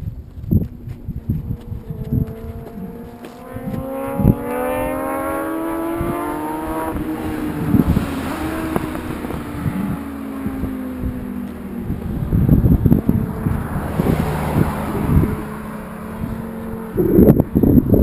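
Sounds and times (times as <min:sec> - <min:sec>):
vehicle engine accelerating: 0:00.0 - 0:18.0.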